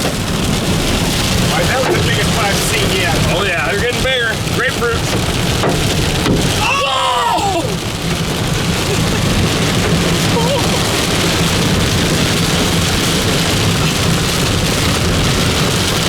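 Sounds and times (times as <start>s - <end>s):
hail and rain on vehicle roof: 0.0s - 16.0s.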